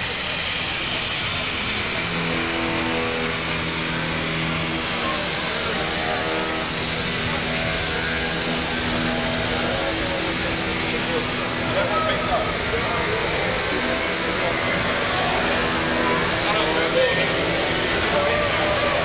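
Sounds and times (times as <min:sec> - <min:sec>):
busy exhibition hall hiss: 0:00.0 - 0:19.0.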